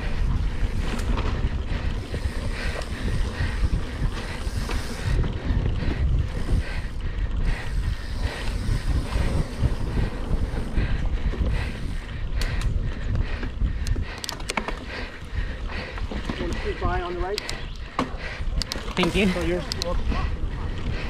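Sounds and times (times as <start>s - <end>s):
bike rattling over rough trail: 0.0s - 21.0s
wind buffeting microphone: 0.0s - 21.0s.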